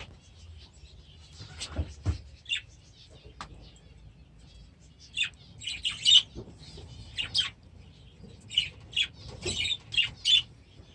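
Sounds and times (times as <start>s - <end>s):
budgerigars chirping and squawking: 0.0s - 10.9s.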